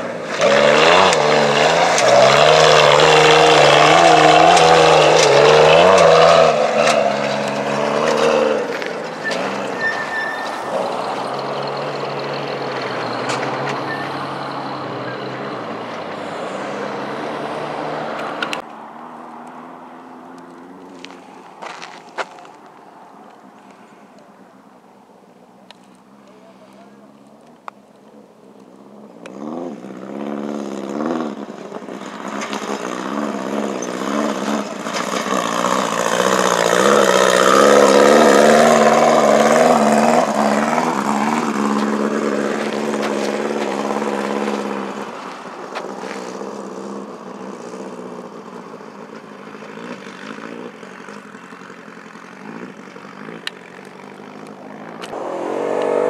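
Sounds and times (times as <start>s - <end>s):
race vehicle engine revving: 0.0s - 22.5s, 29.0s - 56.0s.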